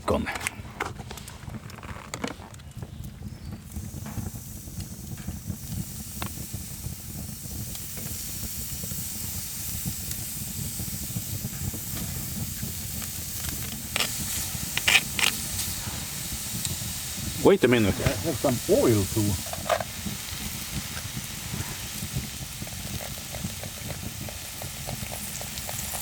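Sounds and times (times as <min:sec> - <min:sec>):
bacon sizzling on stone: 0:03.2 - 0:26.0.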